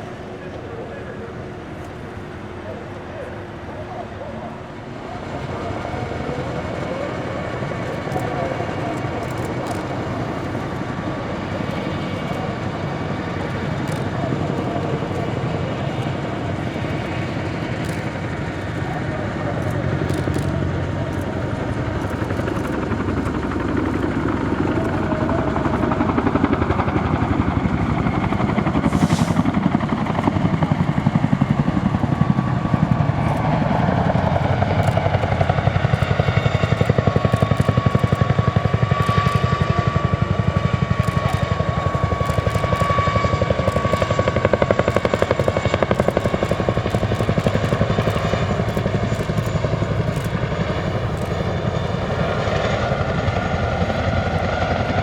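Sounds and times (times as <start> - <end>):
helicopter rotors chopping: 0.0 - 55.0.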